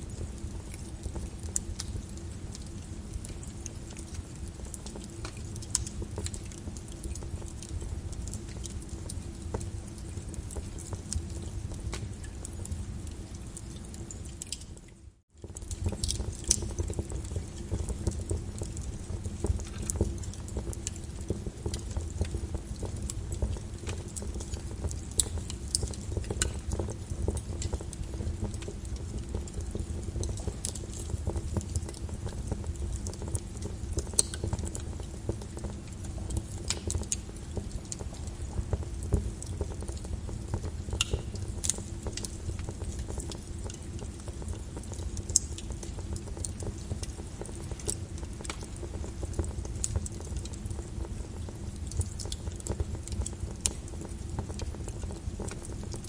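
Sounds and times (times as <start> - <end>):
lava crackling and popping: 0.0 - 56.0.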